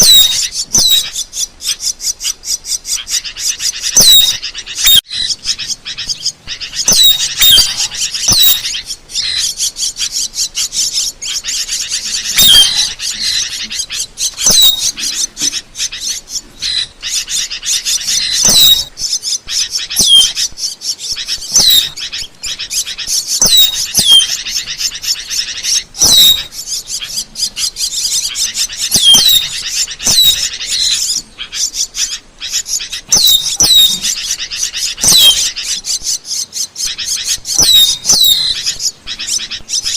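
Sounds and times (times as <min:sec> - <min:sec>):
starling chattering: 0:00.0 - 0:39.9
starling whistles: 0:00.0 - 0:39.9.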